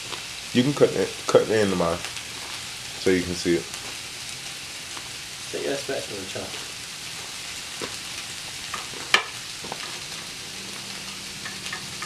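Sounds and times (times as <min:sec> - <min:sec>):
burger patties sizzling in pan: 0:00.0 - 0:12.0.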